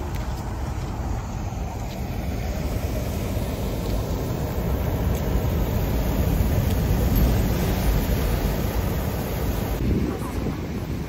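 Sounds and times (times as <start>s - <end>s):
wind rumbling on microphone: 0.0s - 11.0s
heavy ocean surf roaring: 1.0s - 11.0s.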